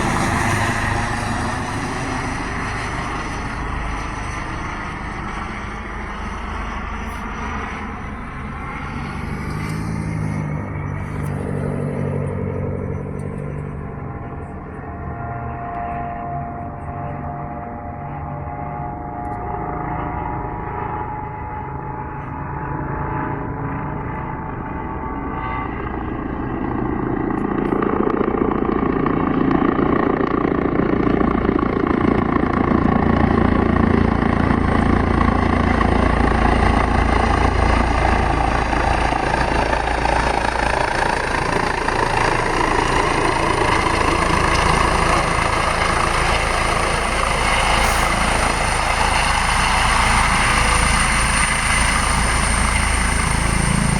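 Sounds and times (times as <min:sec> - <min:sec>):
helicopter turbines and rotor: 0:00.0 - 0:53.9.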